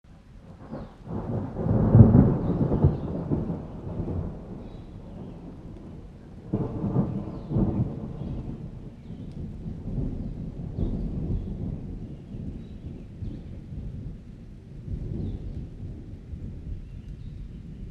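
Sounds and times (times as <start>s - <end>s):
thunder rumbling: 0.2s - 17.9s.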